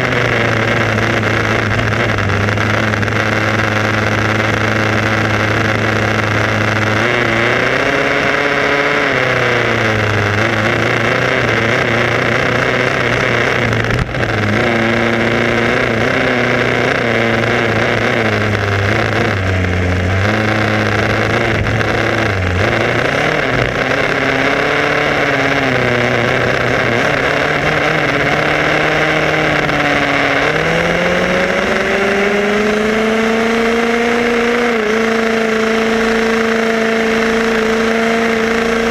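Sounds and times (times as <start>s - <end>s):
road and wind noise: 0.0s - 38.9s
small two-stroke engine revving: 0.0s - 38.9s.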